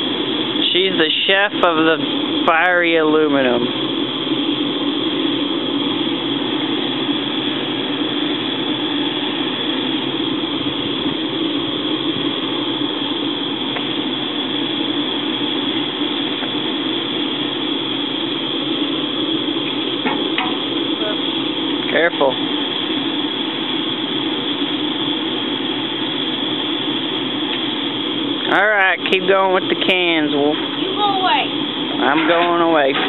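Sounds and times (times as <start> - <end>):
furnace air rushing: 0.0 - 33.0.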